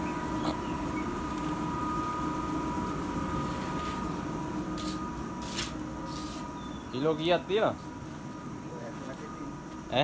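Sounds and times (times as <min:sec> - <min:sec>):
mill machinery drone and whine: 0:00.0 - 0:10.0.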